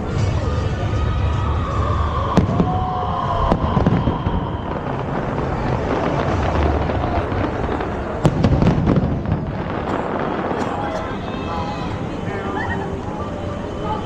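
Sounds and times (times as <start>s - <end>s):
fireworks crackling: 0.0s - 14.0s
fireworks whistling: 0.0s - 14.0s
fireworks bangs: 0.1s - 13.0s.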